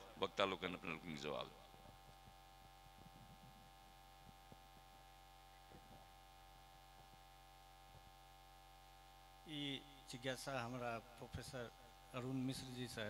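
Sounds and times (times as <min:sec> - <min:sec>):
mains hum: 0:00.0 - 0:13.0.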